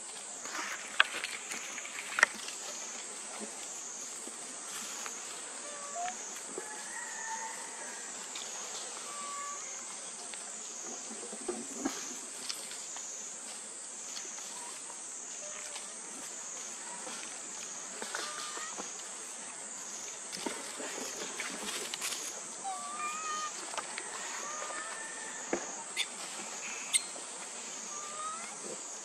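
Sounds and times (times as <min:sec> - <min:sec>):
insect chorus drone: 0:00.0 - 0:29.0.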